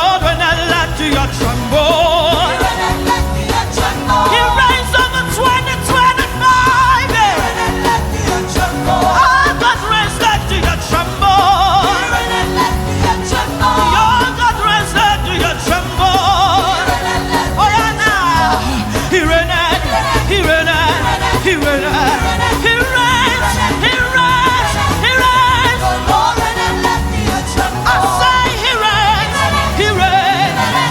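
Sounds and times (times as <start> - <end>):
drums and bass beat: 0.0 - 30.9
gospel band playing: 0.0 - 30.9
person singing: 0.0 - 30.9.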